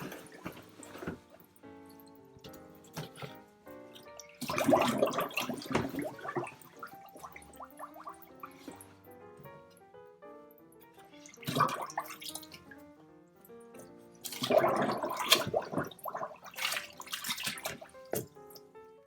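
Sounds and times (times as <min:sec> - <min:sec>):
water sloshing and splashing: 0:00.0 - 0:09.2, 0:10.9 - 0:12.8, 0:13.8 - 0:18.7
background music: 0:00.0 - 0:19.0.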